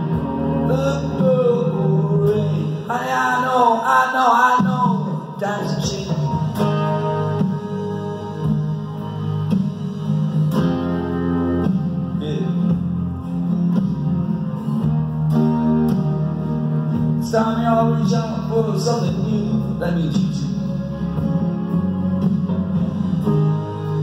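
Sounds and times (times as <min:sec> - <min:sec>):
acoustic guitar playing chords: 0:00.0 - 0:24.0
electronic backing track with bass: 0:00.0 - 0:24.0.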